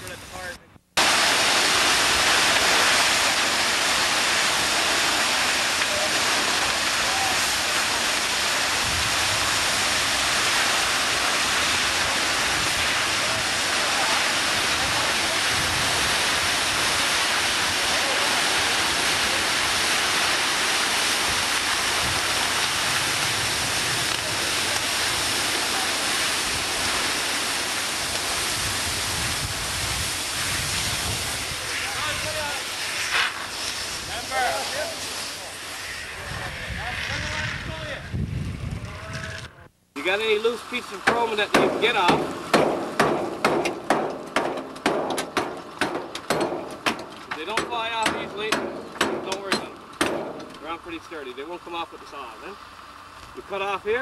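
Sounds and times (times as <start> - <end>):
fire hose spraying water: 0.0 - 38.7, 40.0 - 54.0.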